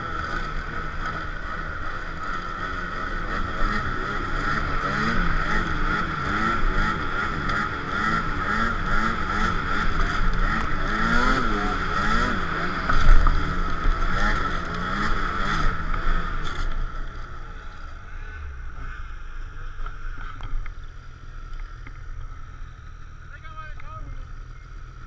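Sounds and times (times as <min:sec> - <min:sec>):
snowmobile engine revving: 0:00.0 - 0:25.0.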